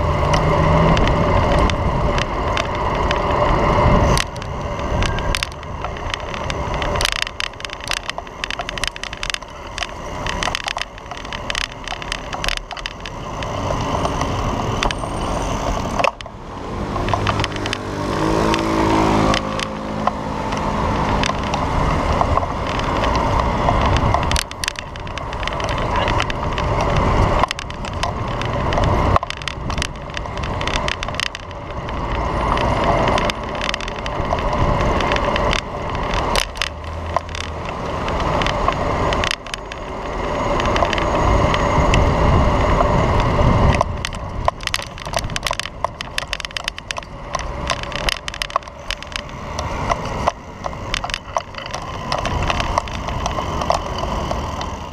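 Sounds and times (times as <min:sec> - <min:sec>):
bicycle clicks and rattles: 0:00.0 - 0:54.9
traffic passing: 0:00.0 - 0:54.9
wind rumbling on microphone: 0:00.0 - 0:54.9.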